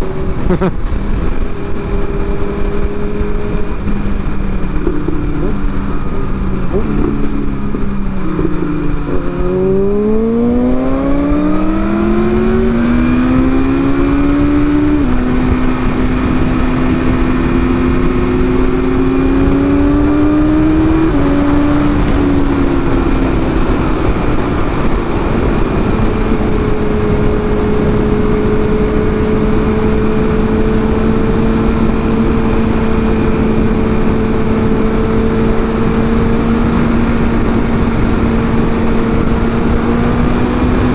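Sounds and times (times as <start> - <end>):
motorcycle engine accelerating: 0.0 - 40.9
wind rush on microphone: 0.0 - 40.9.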